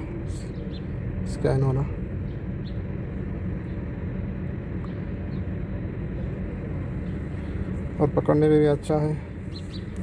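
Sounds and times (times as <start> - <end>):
low rumble inside car: 0.0 - 10.0.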